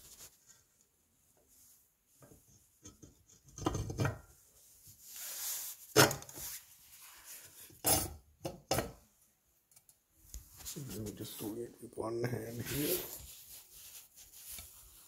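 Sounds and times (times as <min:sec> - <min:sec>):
rubbing and handling noise: 0:00.0 - 0:08.0, 0:10.2 - 0:15.0.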